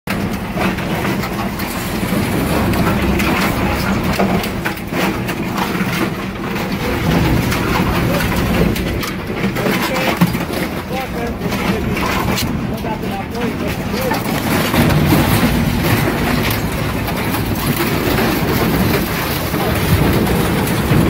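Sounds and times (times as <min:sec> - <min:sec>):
metal crunching and clanking: 0:00.1 - 0:21.0.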